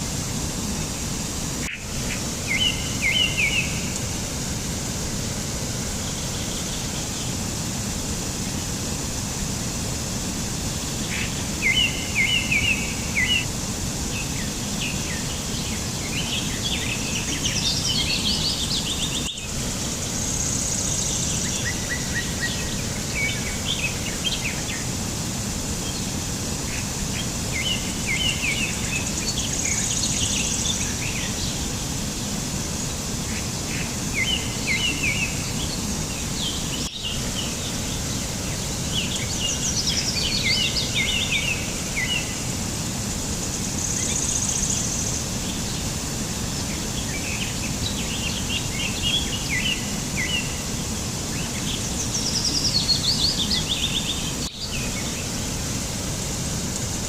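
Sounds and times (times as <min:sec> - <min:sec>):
steady background hiss: 0:00.0 - 0:57.0
small birds chirping: 0:00.2 - 0:57.0.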